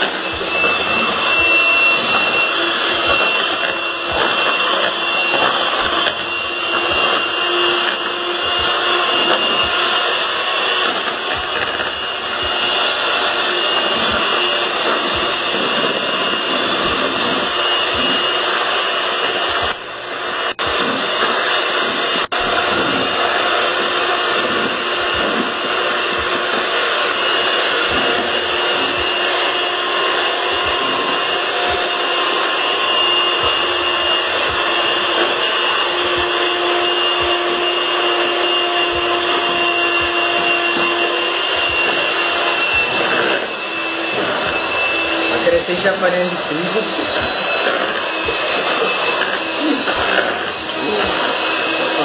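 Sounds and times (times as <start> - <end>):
electric hand mixer whisking batter: 0.0 - 52.0.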